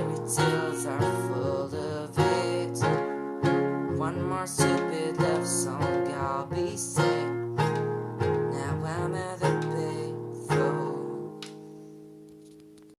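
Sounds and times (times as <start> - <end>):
person singing: 0.0 - 11.5
acoustic guitar strumming chords: 0.0 - 12.9.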